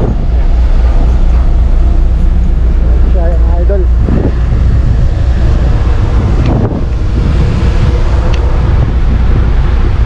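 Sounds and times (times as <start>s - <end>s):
rush of the sea: 0.0s - 10.0s
wind buffeting microphone: 0.0s - 10.0s.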